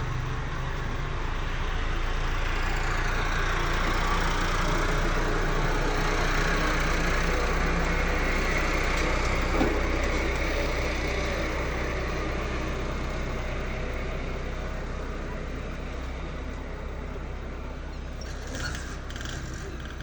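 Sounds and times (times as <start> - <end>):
engine-like mechanical running hum: 0.0 - 20.0.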